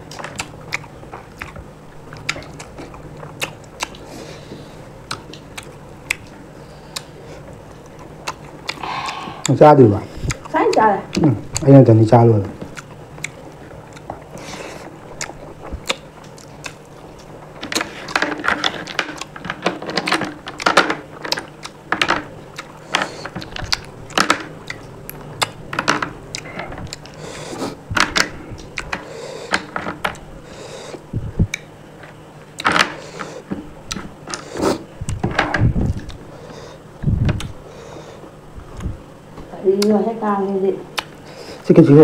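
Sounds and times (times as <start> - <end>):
person chewing: 0.0 - 11.7, 12.6 - 35.2, 35.8 - 39.0, 40.9 - 41.7.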